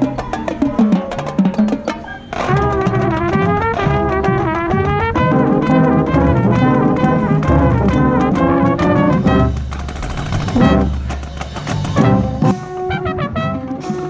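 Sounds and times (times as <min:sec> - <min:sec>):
steady drum strokes: 0:00.0 - 0:14.0
marching band brass playing: 0:02.3 - 0:14.0.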